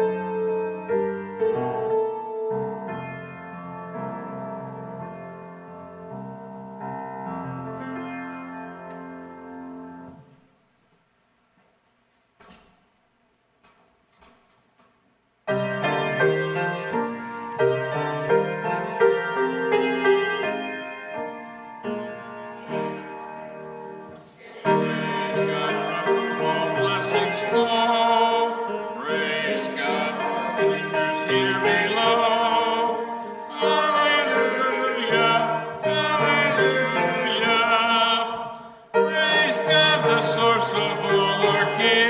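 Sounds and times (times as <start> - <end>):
church keyboard music: 0.0 - 13.1, 13.7 - 42.0.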